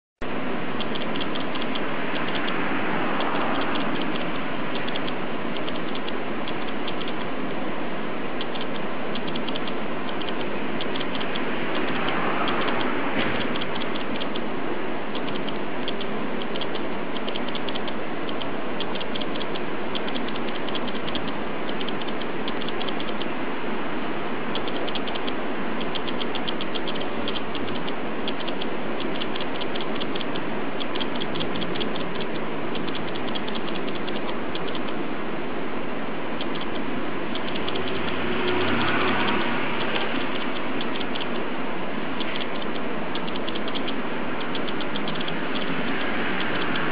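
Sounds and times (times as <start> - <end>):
mechanism whirring: 0.2 - 46.9
fast uneven ticking: 0.8 - 7.4, 8.4 - 14.5, 15.1 - 23.3, 24.5 - 35.0, 36.4 - 41.5, 42.2 - 46.9.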